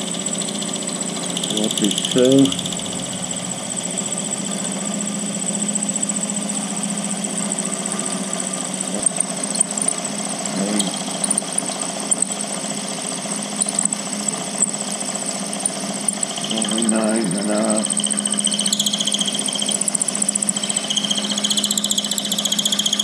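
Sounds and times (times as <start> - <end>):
milling machine whine: 0.0 - 23.0.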